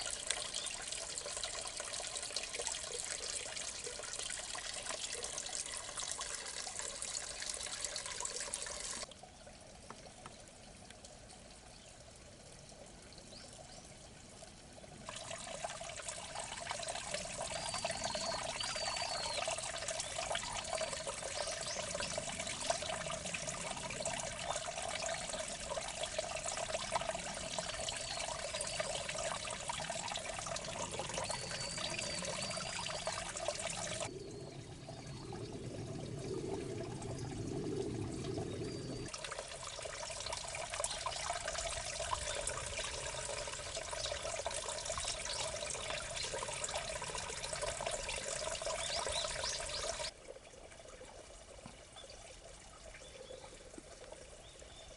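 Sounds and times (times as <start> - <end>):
water trickling in ditch: 0.0 - 54.9.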